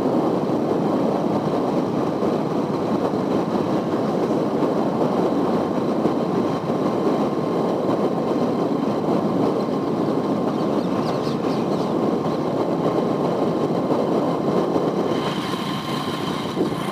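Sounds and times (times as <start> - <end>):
moving vehicle rumbling: 0.0 - 16.9.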